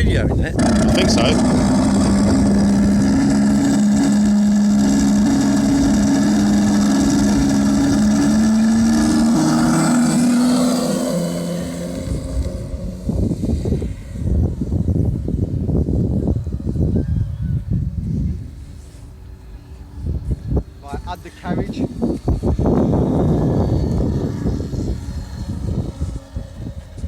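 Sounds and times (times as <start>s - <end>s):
gusty rumble: 0.0s - 27.0s
model plane engine drone: 0.0s - 27.0s.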